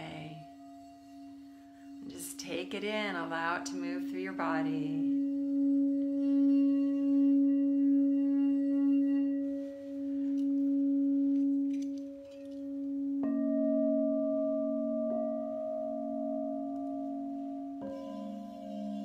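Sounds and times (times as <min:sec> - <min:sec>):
crystal singing bowl low tone: 0:00.0 - 0:19.0
second bowl struck higher tone: 0:00.0 - 0:19.0.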